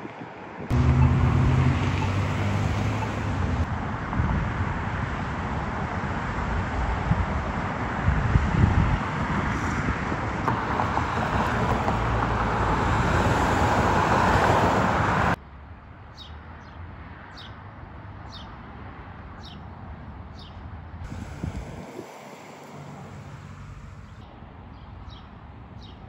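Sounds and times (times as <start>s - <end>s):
car traffic: 0.0s - 26.0s.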